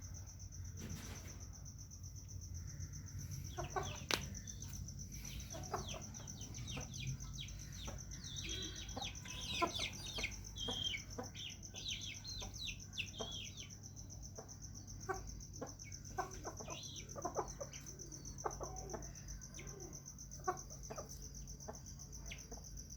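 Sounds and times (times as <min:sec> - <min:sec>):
chickens clucking: 0:03.0 - 0:22.9.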